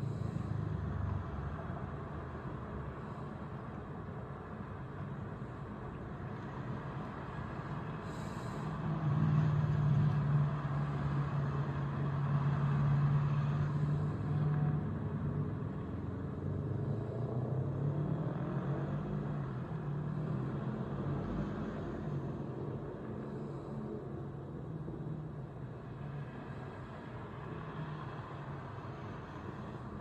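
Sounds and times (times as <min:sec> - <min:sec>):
vehicle engine and tyres hum: 0:00.0 - 0:30.0.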